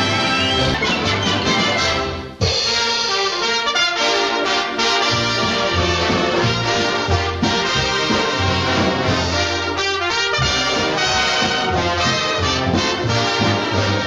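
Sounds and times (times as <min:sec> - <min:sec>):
brass-led orchestra theme: 0:00.0 - 0:14.0.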